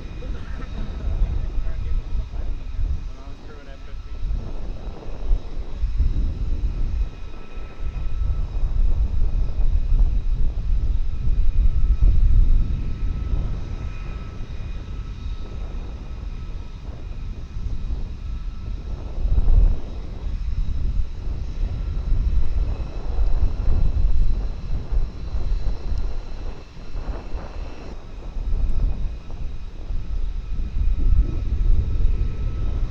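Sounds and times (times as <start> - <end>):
fighter jet passing: 0.0 - 32.9.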